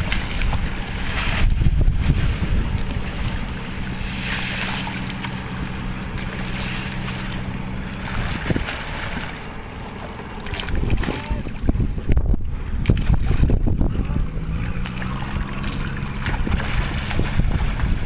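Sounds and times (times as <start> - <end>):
boat engine humming: 0.0 - 18.0
water rushing past: 0.0 - 18.0
wind buffeting microphone: 0.0 - 18.0.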